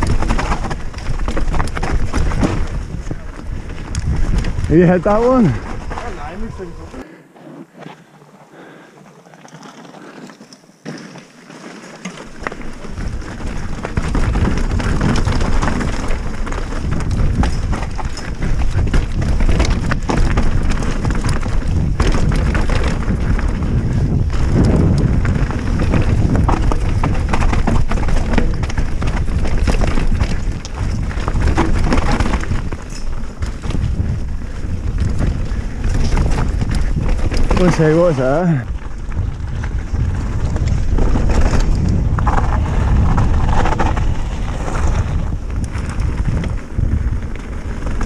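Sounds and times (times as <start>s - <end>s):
bike rattling and knocking: 0.0s - 7.0s, 10.8s - 48.0s
tyres rolling over dirt and stones: 0.0s - 7.0s, 8.2s - 48.0s
wind buffeting microphone: 0.0s - 7.1s, 12.8s - 48.0s.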